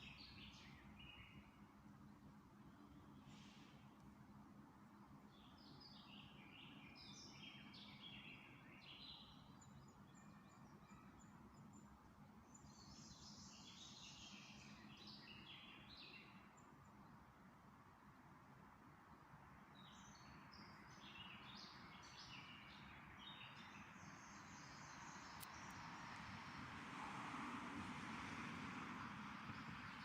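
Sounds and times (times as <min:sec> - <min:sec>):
songbird singing: 0:00.0 - 0:17.3, 0:19.1 - 0:26.0.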